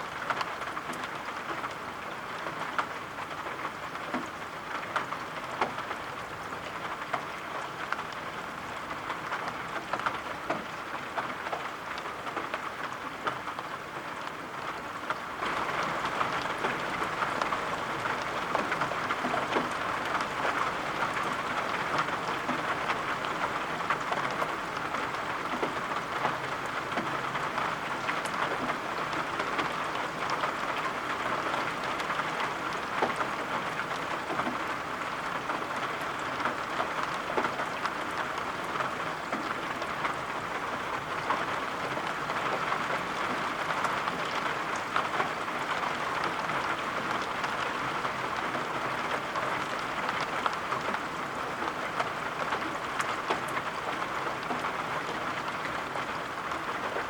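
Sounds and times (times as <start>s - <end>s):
rain with fine drop ticks: 0.0s - 57.0s.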